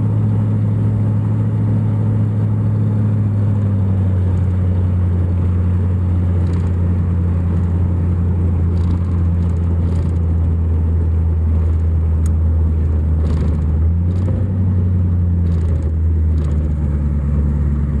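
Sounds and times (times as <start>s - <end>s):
car engine and exhaust droning: 0.0s - 18.0s
road noise: 0.0s - 18.0s.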